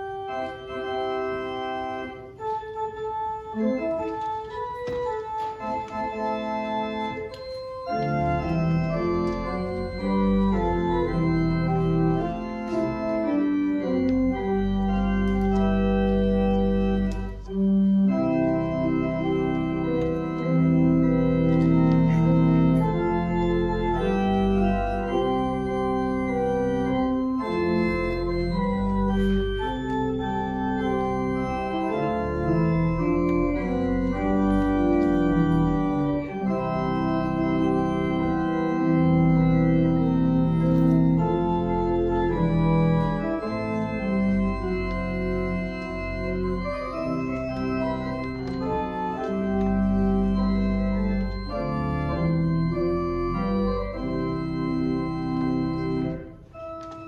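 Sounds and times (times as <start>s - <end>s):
church organ playing chords: 0.0s - 57.0s.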